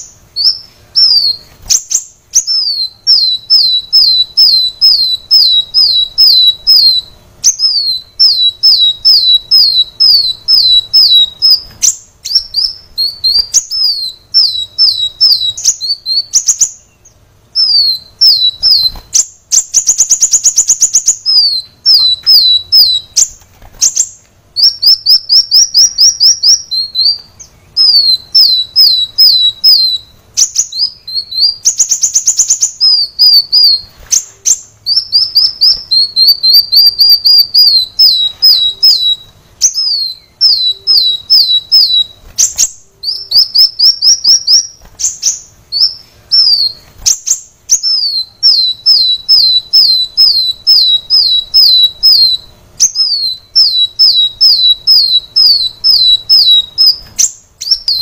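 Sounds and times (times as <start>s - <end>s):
short buzzy bird trill: 0.0s - 58.0s
sunbird singing: 0.0s - 58.0s.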